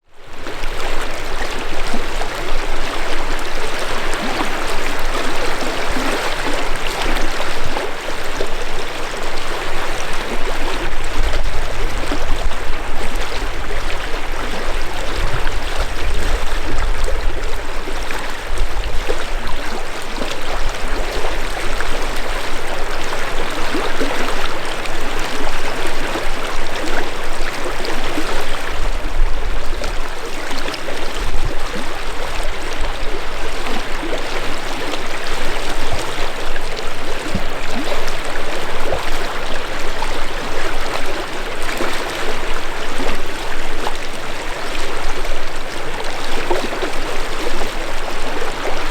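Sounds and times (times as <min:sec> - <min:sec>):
river flowing over stones: 0:00.2 - 0:48.9.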